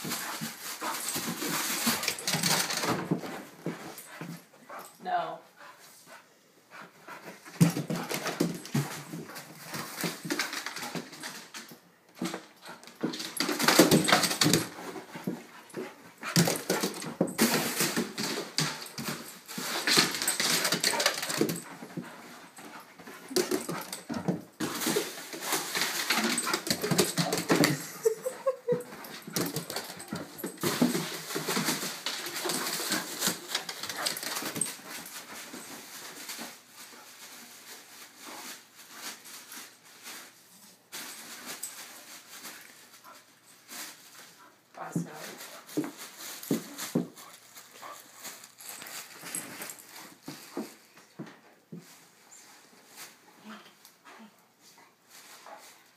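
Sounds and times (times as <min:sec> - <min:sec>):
bedding scuffling and rustling: 0:00.0 - 0:05.2, 0:06.8 - 0:55.9.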